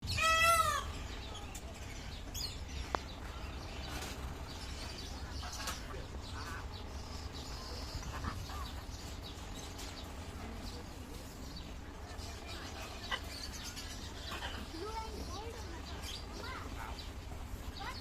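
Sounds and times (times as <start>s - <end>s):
bird chirps and calls: 0.0s - 18.0s.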